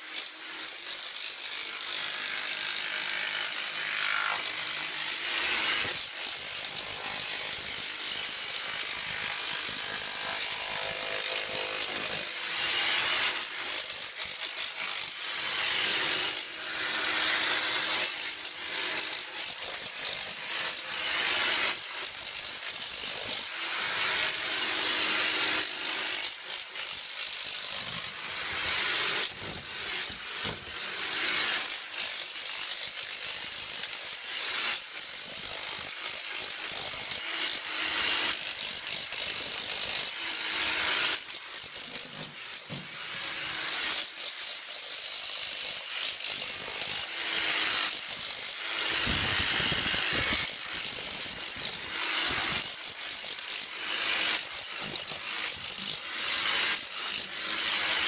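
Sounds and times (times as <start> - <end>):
demolition hammer chiseling tile: 0.0 - 58.0.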